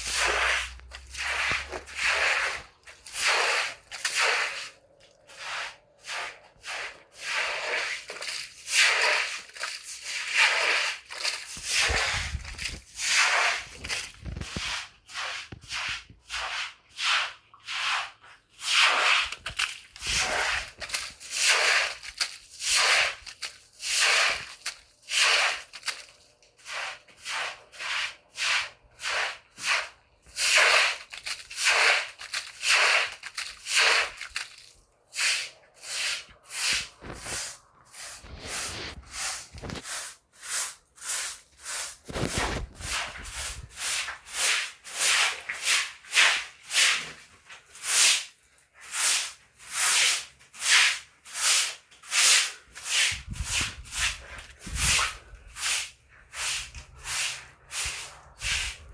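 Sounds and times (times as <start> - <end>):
cloth scrubbing rough surface: 0.0 - 58.9.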